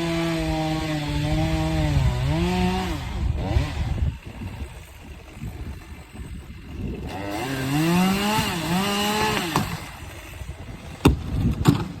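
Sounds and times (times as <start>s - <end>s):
chainsaw idling and revving: 0.0s - 11.2s.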